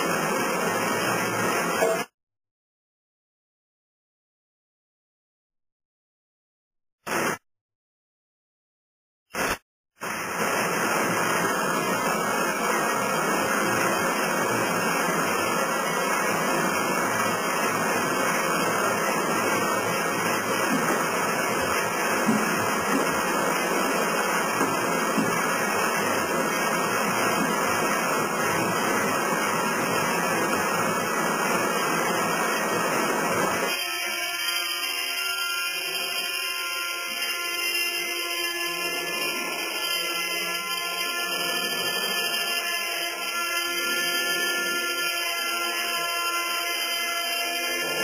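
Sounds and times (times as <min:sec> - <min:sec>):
sawmill running: 0:00.0 - 0:02.1, 0:09.4 - 0:48.0.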